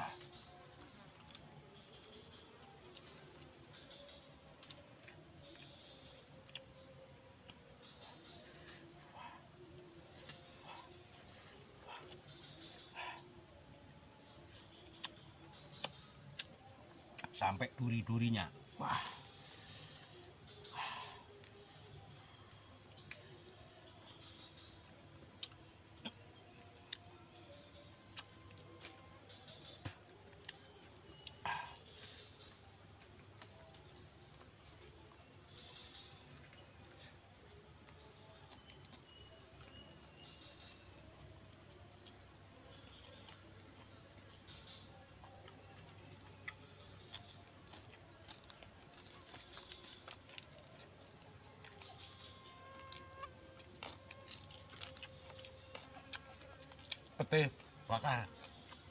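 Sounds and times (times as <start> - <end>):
crickets trilling: 0.0 - 58.9.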